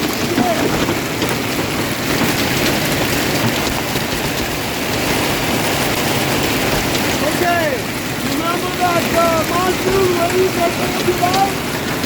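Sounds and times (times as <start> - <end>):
heavy rain on car roof: 0.0 - 12.0.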